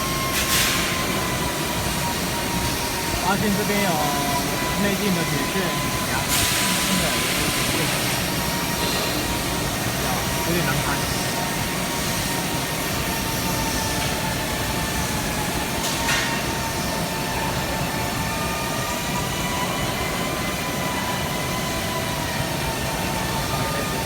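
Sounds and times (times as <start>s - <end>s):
workshop machinery noise: 0.0s - 24.0s.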